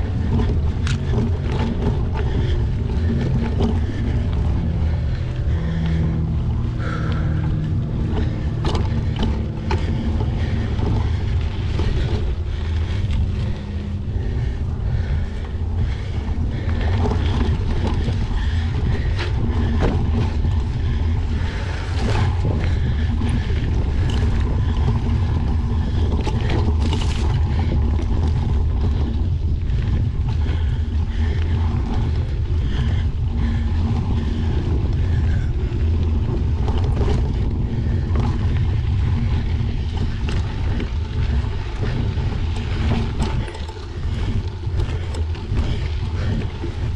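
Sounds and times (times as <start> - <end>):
bicycle tyres rolling on dirt: 0.0 - 46.9
bike knocks and rattles: 0.0 - 46.9
wind buffeting microphone: 0.0 - 46.9.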